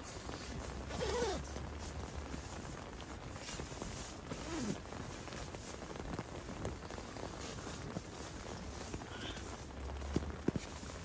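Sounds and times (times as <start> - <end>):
rain pattering on tent: 0.0 - 11.0.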